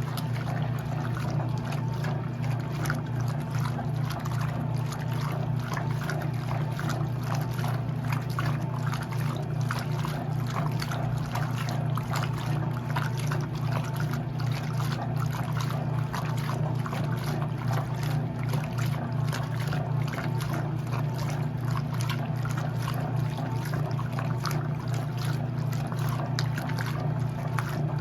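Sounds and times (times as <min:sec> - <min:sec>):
washing machine motor hum: 0:00.0 - 0:28.0
water sloshing in tub: 0:00.0 - 0:28.0.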